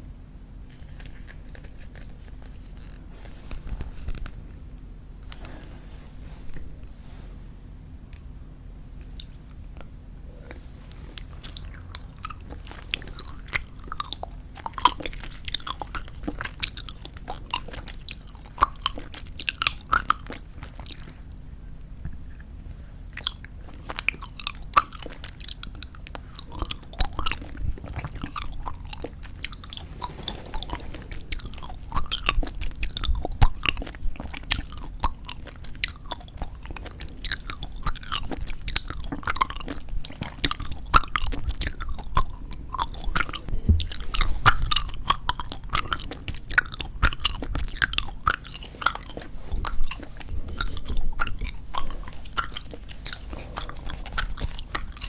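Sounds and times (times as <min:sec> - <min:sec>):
gum chewing mouth clicks: 0:09.0 - 0:21.3, 0:23.1 - 0:55.0.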